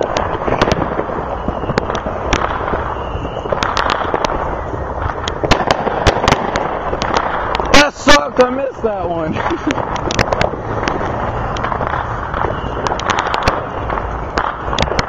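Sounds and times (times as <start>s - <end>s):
fireworks rumble of bursts: 0.0s - 15.0s
fireworks sharp cracks and pops: 0.0s - 15.0s.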